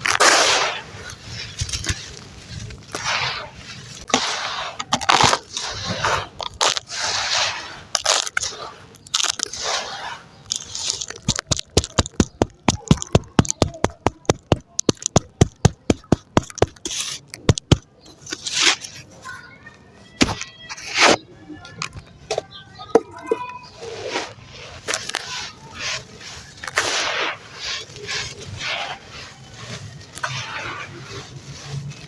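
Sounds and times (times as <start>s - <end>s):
sand crumbling and grinding: 0.0s - 19.5s, 23.6s - 32.0s.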